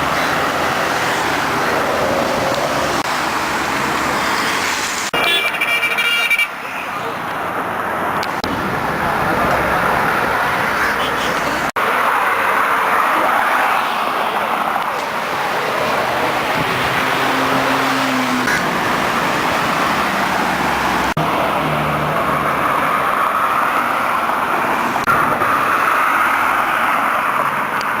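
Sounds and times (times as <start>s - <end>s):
cars in street traffic: 0.0s - 28.0s.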